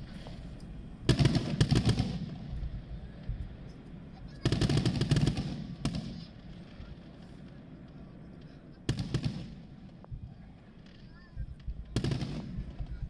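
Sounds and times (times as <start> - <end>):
firework crack: 0.0 - 13.0
fireworks bangs: 0.0 - 13.0.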